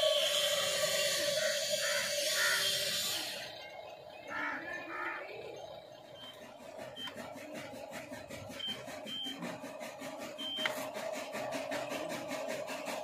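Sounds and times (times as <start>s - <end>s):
electric motors and gears whining: 0.0s - 13.0s.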